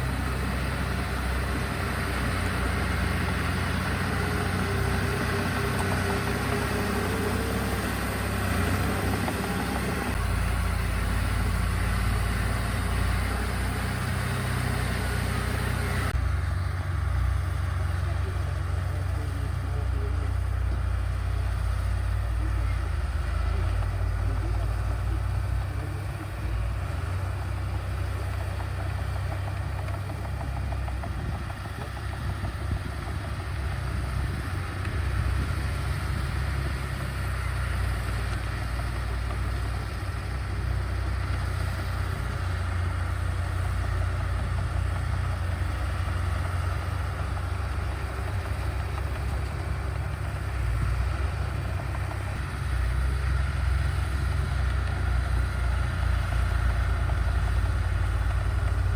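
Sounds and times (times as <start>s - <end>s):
diesel engine rumbling: 0.0s - 58.9s.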